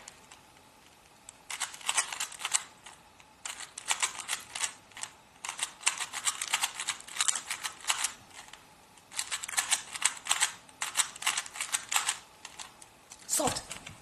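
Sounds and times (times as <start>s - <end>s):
puzzle cube layers clicking: 1.3s - 12.9s.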